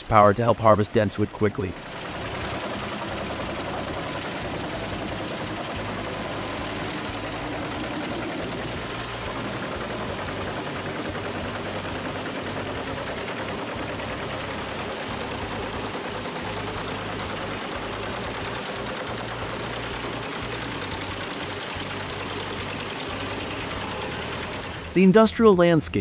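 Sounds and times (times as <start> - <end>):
wood chipper splintering wood: 0.0 - 25.0
tractor engine hum: 0.0 - 26.0.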